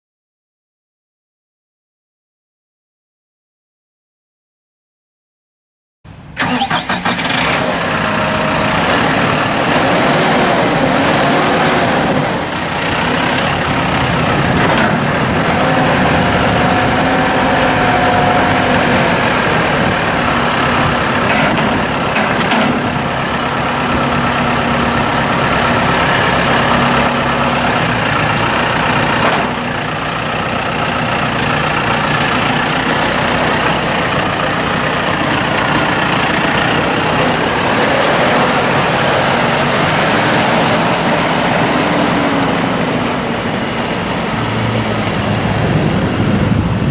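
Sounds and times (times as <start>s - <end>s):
tractor diesel engine running: 6.1s - 46.9s.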